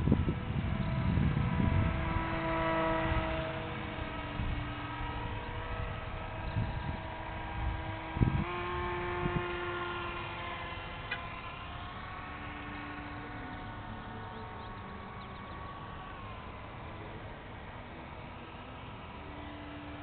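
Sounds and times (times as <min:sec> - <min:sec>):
wind rumbling on microphone: 0:00.0 - 0:19.2
electric model plane motor whining: 0:00.0 - 0:20.0.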